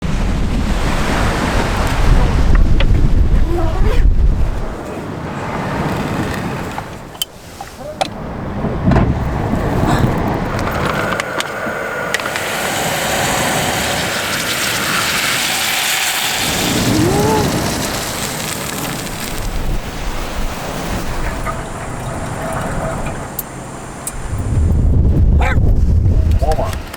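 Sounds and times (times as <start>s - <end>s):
strong wind buffeting microphone: 0.0s - 26.9s.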